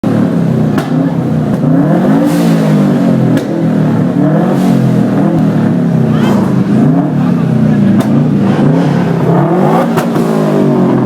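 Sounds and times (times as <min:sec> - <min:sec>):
car engine revving: 0:00.0 - 0:11.0
exhaust pop: 0:00.0 - 0:11.0.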